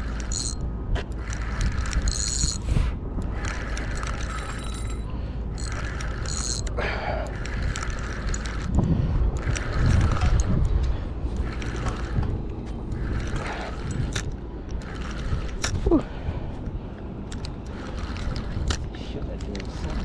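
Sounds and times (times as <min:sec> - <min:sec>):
fishing reel gears ticking: 0:00.0 - 0:10.7, 0:11.4 - 0:15.8, 0:17.3 - 0:20.0.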